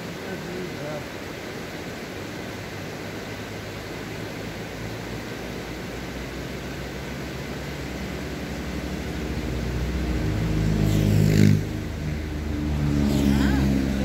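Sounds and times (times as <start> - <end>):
mountain stream rushing: 0.0 - 14.0
vehicle engine rumbling: 0.0 - 14.0.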